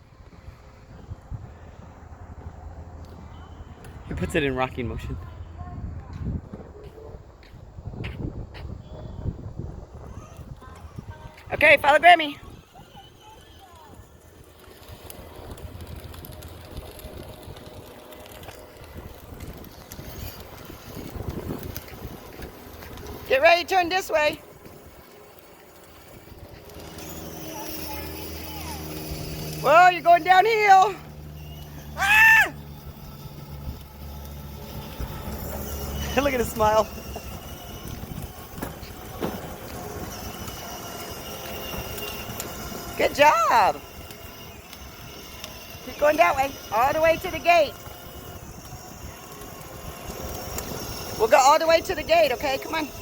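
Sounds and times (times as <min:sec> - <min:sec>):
wheels rattling over ground: 0:08.6 - 0:53.0
toy motor whirring: 0:09.6 - 0:53.0.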